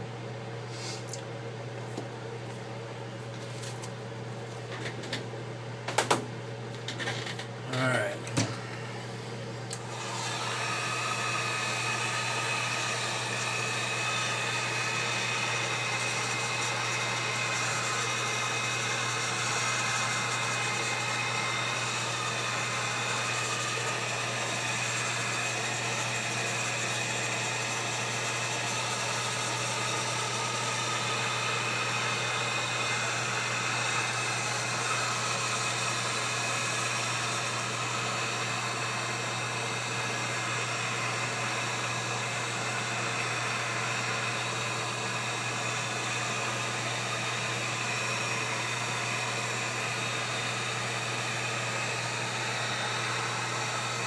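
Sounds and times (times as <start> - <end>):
heat gun blowing air: 9.7 - 54.0.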